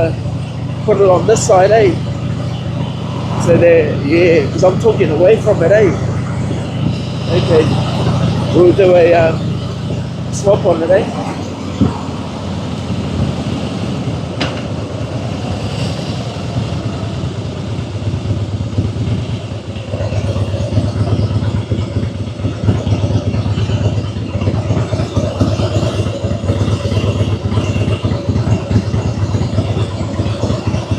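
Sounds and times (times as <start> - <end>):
motorcycle engine throbbing: 0.0 - 30.9.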